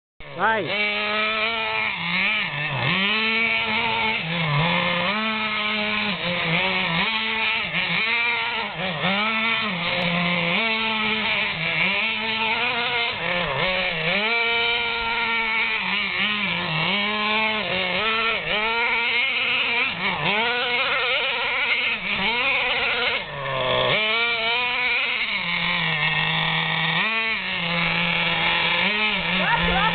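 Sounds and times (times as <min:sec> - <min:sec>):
small engine revving: 0:00.2 - 0:29.9.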